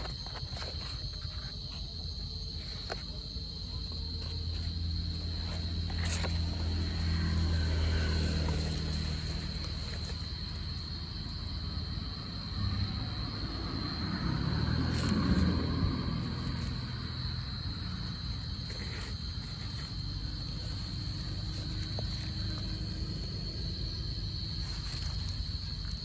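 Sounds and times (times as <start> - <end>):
cricket trilling: 0.0 - 26.0
low droning rumble: 0.0 - 26.0.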